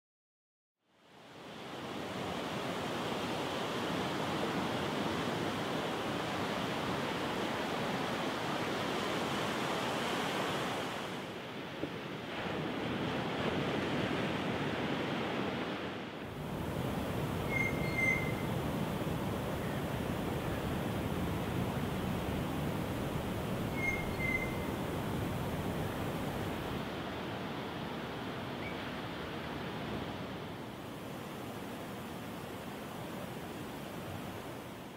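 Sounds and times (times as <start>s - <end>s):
ocean waves breaking on beach: 1.1s - 34.9s.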